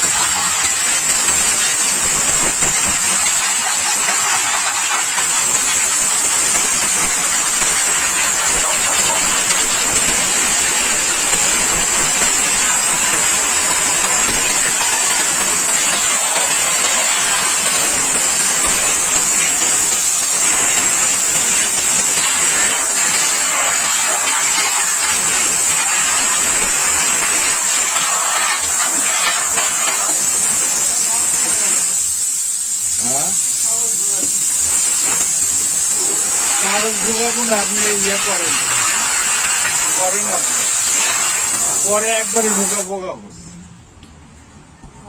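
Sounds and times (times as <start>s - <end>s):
machine motor running: 0.0s - 42.8s
high-pressure water jet hissing: 0.0s - 43.1s.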